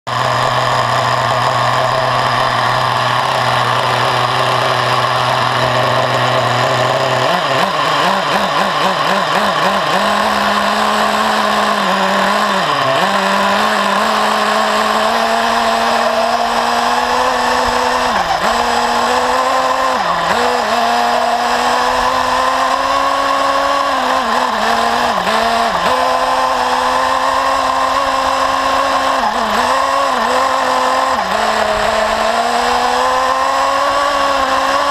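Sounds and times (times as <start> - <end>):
model car engine revving: 0.0 - 34.9.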